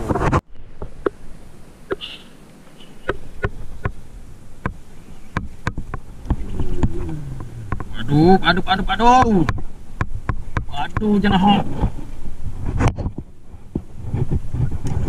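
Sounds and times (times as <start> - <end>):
faint steady buzz: 0.0 - 15.0.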